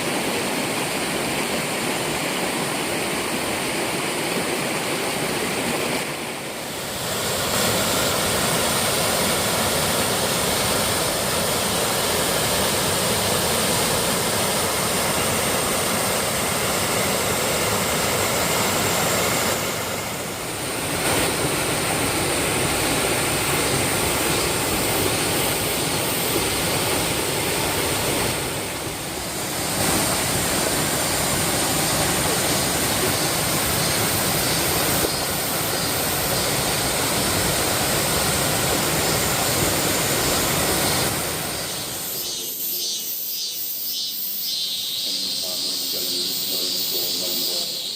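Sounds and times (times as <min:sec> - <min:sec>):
waterfall roaring: 0:00.0 - 0:43.5.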